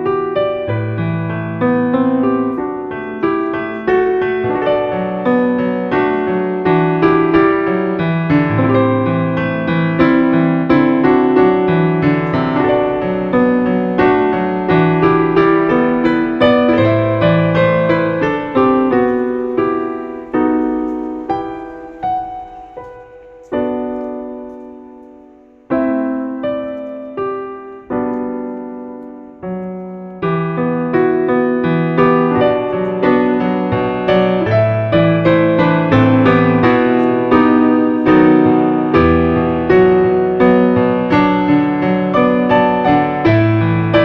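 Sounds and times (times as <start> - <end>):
piano music: 0.0 - 44.0.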